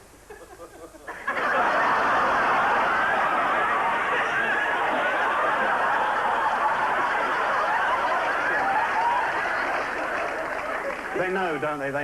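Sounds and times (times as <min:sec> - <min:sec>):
studio audience laughing: 0:00.3 - 0:11.3.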